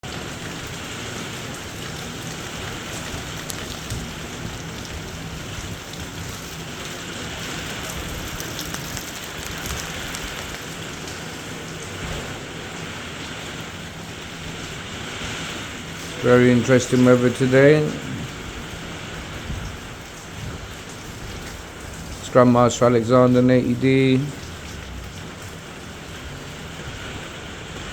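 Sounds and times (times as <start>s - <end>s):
heavy rain: 0.0s - 27.9s.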